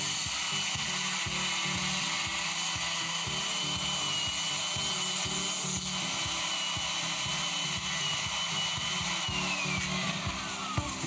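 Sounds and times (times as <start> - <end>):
background music: 0.0 - 11.0
router whining cutting foam: 0.0 - 11.0.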